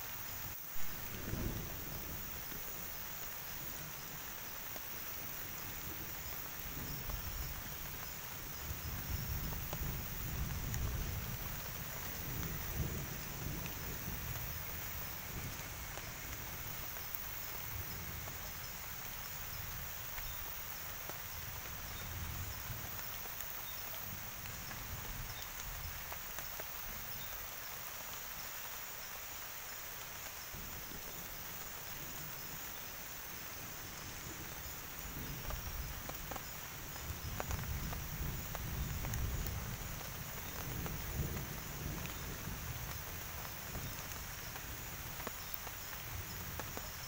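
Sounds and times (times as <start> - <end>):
rain pattering in forest: 0.0 - 47.0.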